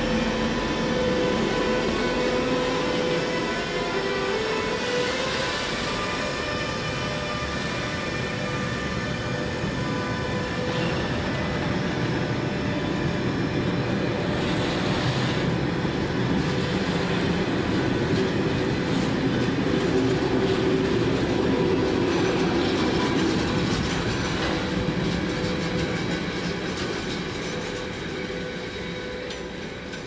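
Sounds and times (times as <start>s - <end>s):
train wheels rolling on track: 0.0s - 30.0s.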